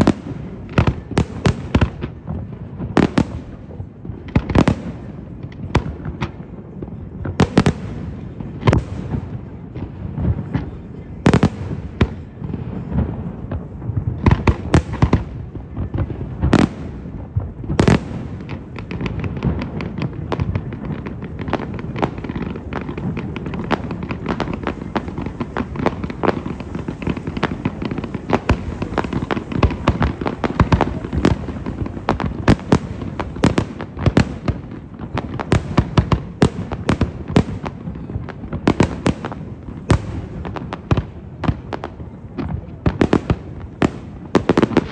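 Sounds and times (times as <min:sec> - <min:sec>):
rapid firework cracking: 0:00.0 - 0:06.5, 0:07.2 - 0:44.9
big firework booms: 0:00.0 - 0:44.9.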